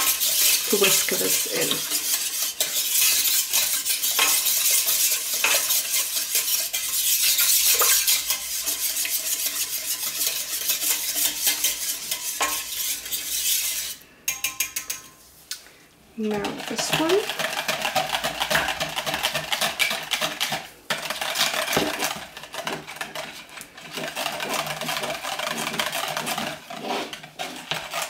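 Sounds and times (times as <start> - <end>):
whisk beating batter in pot: 0.0 - 15.1, 16.3 - 28.0.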